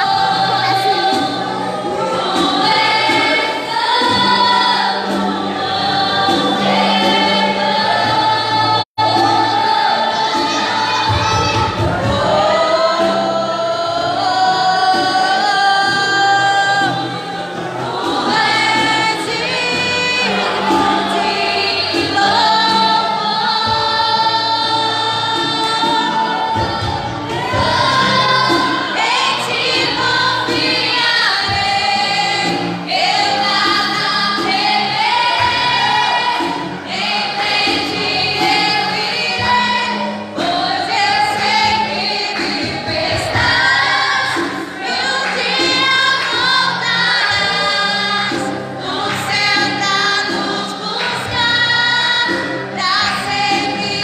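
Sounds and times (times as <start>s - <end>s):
group singing gospel song: 0.0s - 54.0s.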